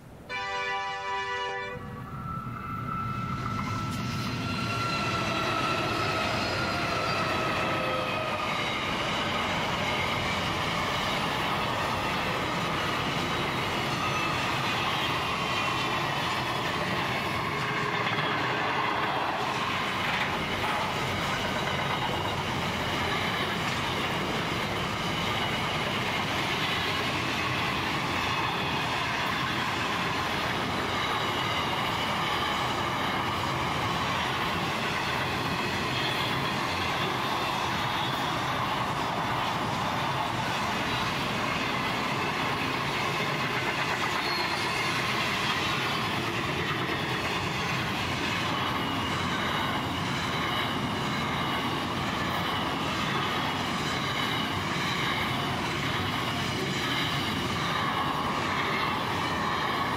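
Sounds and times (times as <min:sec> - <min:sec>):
diesel locomotive engines passing: 0:00.0 - 0:59.9
train wheels rumbling on rails: 0:01.1 - 0:59.9
high wheel squeal: 0:01.8 - 0:59.9.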